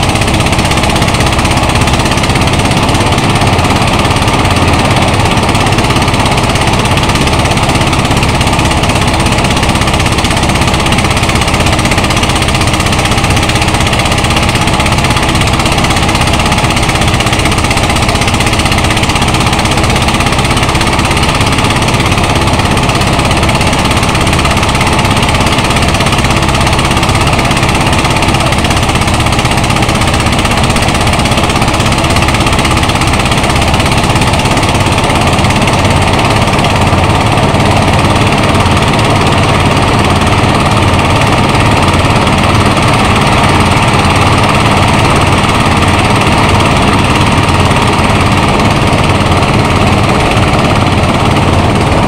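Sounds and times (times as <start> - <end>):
rice thresher engine drone: 0.0 - 52.0.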